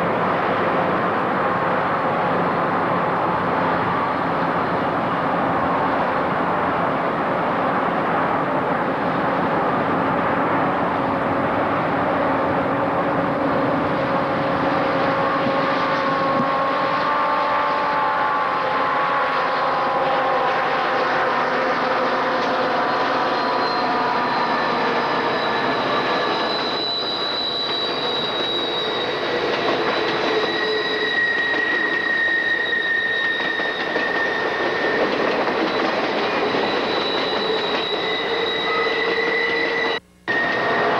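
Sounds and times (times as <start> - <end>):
steel wheels squealing on rails: 0.0 - 6.3, 12.0 - 40.9
train rolling past: 0.0 - 40.9.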